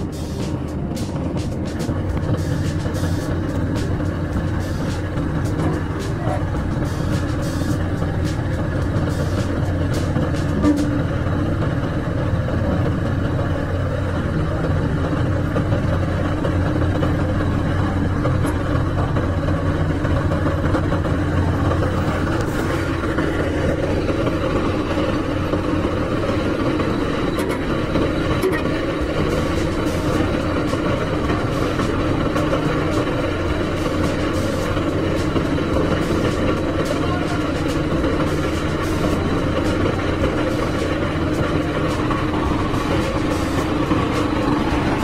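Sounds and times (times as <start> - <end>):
diesel engines droning: 0.0 - 45.0.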